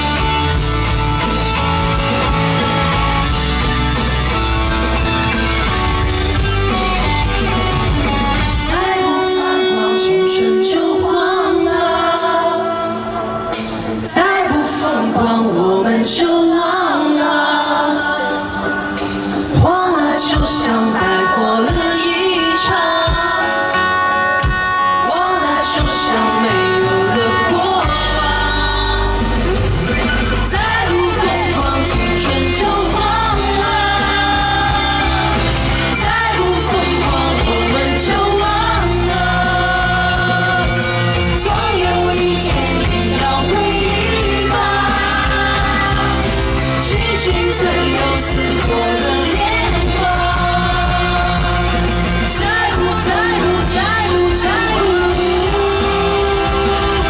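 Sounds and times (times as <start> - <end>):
heavy bass guitar: 0.0 - 16.9, 18.2 - 57.0
rock band playing: 0.0 - 57.0
woman singing with long held notes: 8.6 - 23.9, 25.0 - 29.4, 30.5 - 57.0.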